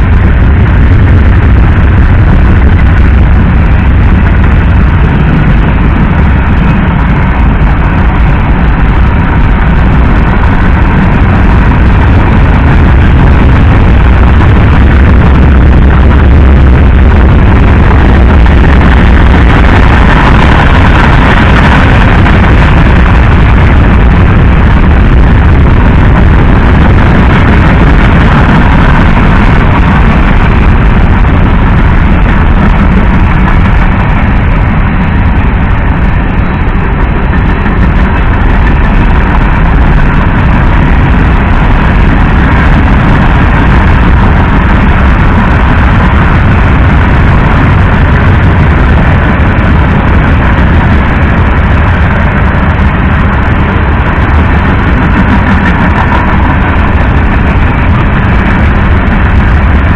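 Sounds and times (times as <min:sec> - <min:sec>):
freight cars rumbling past: 0:00.0 - 0:59.9.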